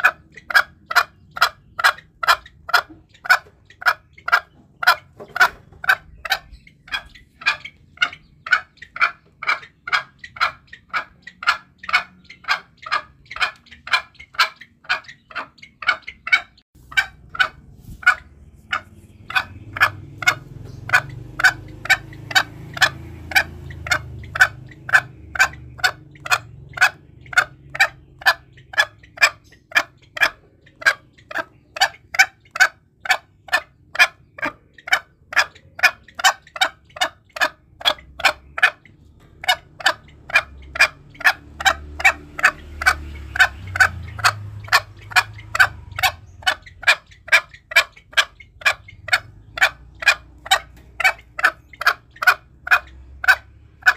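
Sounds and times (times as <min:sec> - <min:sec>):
junglefowl clucking: 0:00.0 - 0:53.9.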